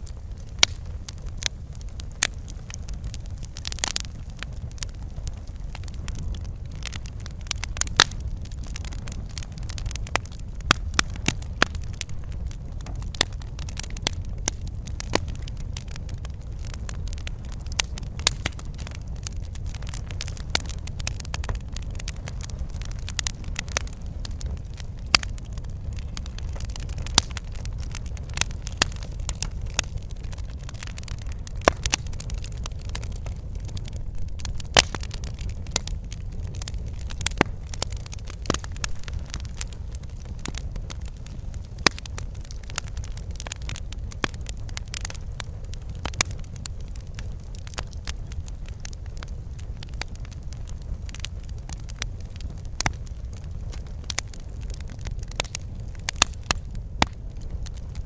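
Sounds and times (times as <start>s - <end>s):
fire pops and snaps: 0.0s - 58.0s
low fire rumble: 0.0s - 58.0s
wood fire crackling: 0.0s - 58.0s.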